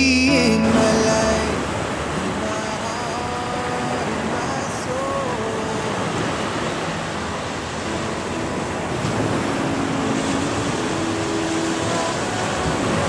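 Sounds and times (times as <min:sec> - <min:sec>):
faint slow song: 0:00.0 - 0:13.0
small waves breaking on beach: 0:00.4 - 0:13.0.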